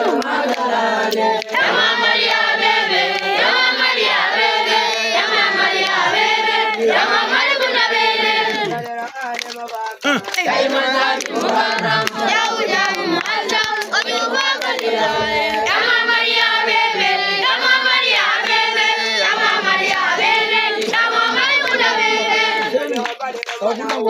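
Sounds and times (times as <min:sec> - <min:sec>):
children singing together: 0:00.0 - 0:08.8, 0:10.0 - 0:22.8.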